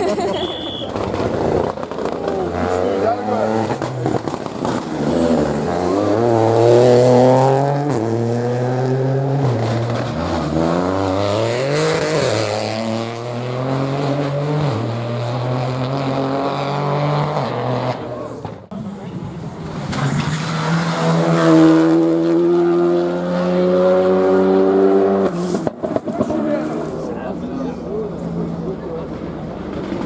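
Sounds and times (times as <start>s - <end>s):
rally car engine at high revs: 1.0s - 30.0s.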